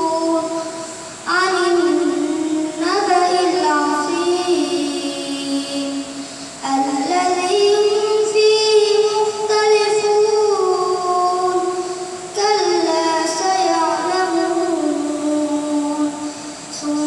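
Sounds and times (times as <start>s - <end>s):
boy singing into microphone: 0.0s - 17.0s.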